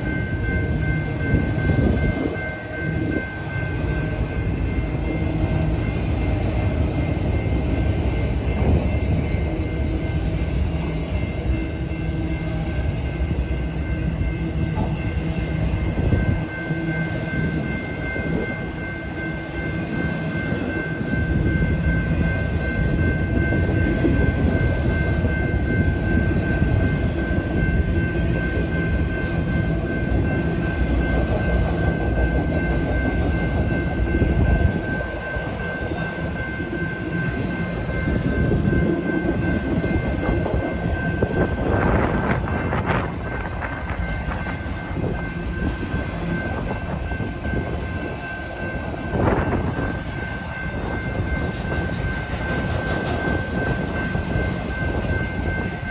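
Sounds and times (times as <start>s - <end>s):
steady high-pitched tone: 0.0s - 55.9s
train wheels rumbling on rail: 0.0s - 55.9s.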